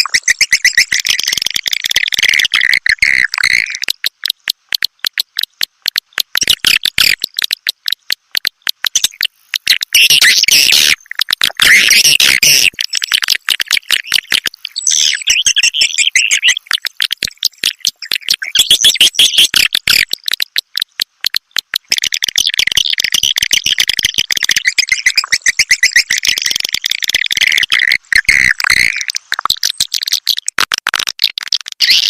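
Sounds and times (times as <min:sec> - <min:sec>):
swiftlets twittering chirps: 0:00.0 - 0:04.5, 0:06.3 - 0:21.0, 0:21.8 - 0:30.2
rapid clicks: 0:00.1 - 0:14.8, 0:15.5 - 0:31.9.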